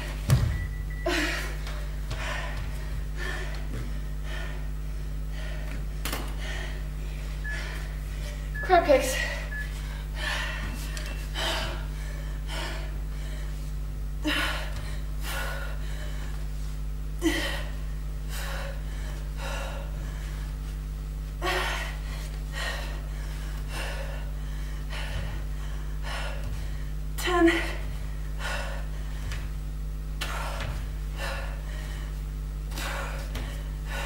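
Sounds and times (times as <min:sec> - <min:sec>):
low hum: 0:00.0 - 0:34.0
woman breathing hard: 0:00.0 - 0:34.0.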